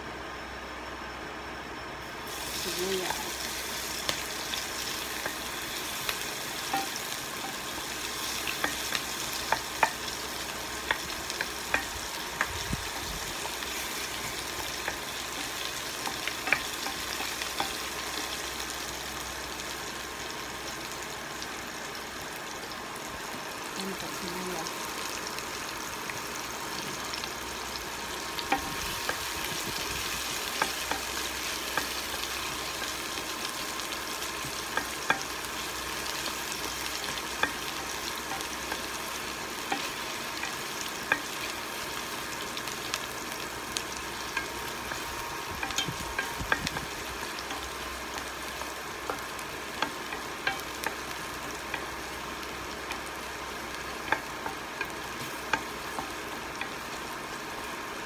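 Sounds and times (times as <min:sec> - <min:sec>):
onions sizzling in oil: 0:01.8 - 0:58.0.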